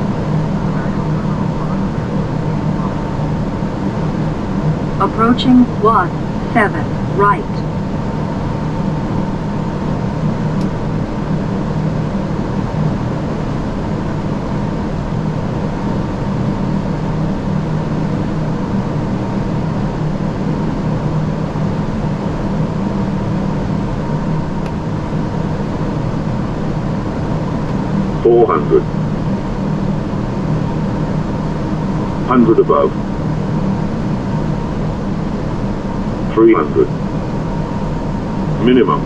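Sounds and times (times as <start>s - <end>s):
airflow and air conditioning rush: 0.0s - 39.0s
low hum: 0.0s - 39.0s.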